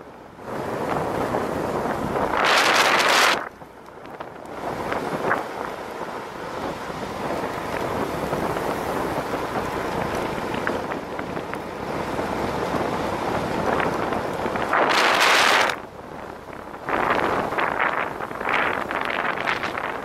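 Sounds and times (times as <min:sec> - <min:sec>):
longboard wheels rolling on asphalt: 0:00.0 - 0:20.0
wind rushing over microphone: 0:00.0 - 0:20.0.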